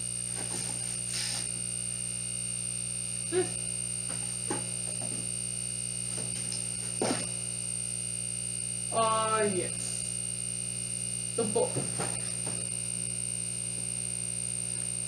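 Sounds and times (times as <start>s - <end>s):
electrical hum with whine: 0.0s - 15.0s.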